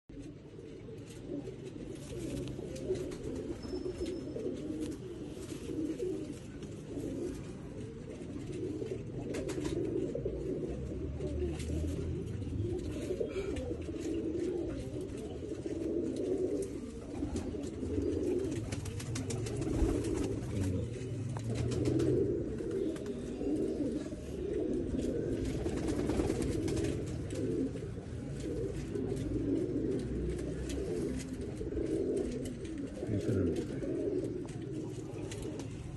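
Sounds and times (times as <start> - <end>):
pigeons cooing: 0.1 - 35.9.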